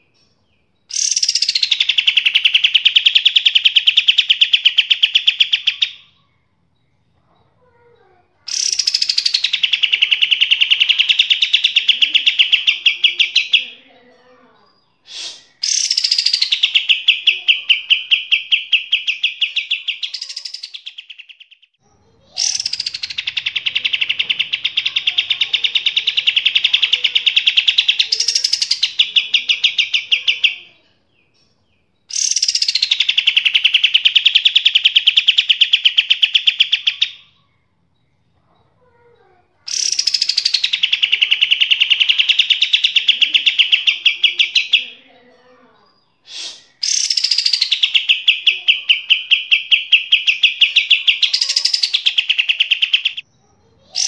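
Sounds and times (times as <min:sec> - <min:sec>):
songbird singing trills: 0:00.0 - 0:54.0.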